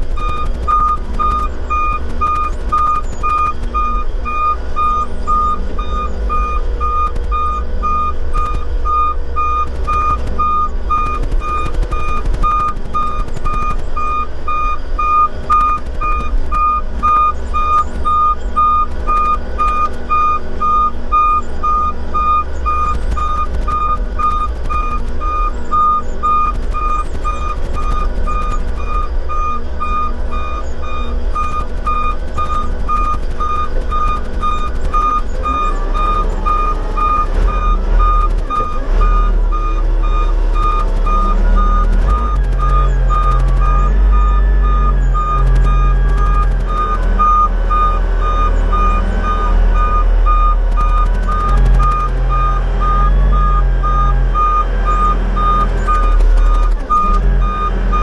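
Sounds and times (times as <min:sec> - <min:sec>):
back-up alarm beeping: 0:00.0 - 0:58.0
heavy machine engine running: 0:00.0 - 0:58.0.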